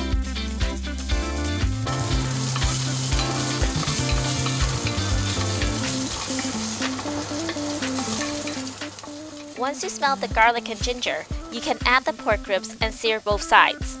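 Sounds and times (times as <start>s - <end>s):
aromatics sizzling in hot oil: 0.0s - 14.0s.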